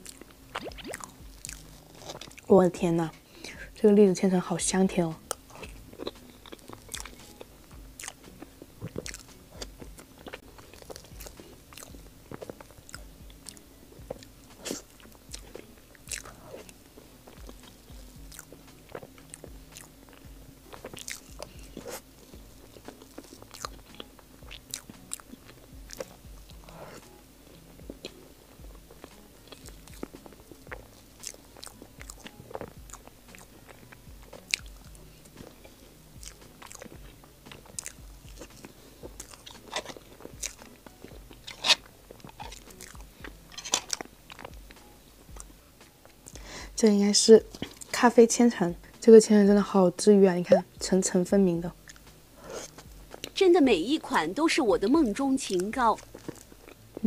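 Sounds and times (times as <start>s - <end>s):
chewing with mouth clicks: 0.0s - 2.5s, 5.2s - 48.1s, 51.7s - 53.4s, 54.8s - 57.0s.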